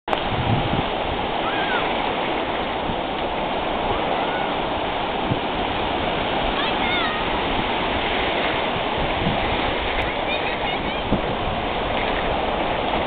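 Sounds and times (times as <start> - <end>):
ocean surf breaking: 0.1 - 13.0.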